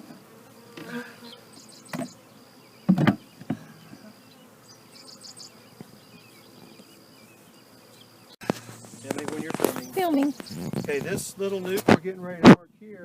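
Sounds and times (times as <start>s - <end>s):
bees buzzing: 0.0s - 12.5s.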